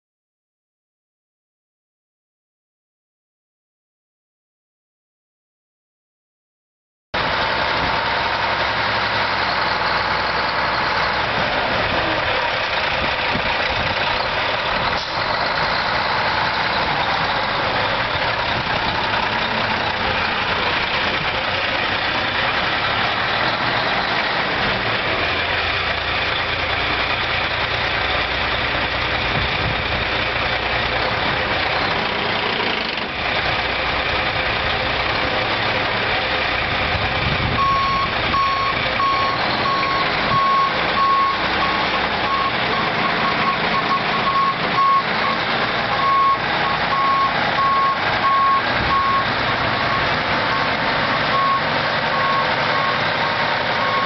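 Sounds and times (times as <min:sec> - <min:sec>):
diesel truck engine idling: 0:07.2 - 0:54.0.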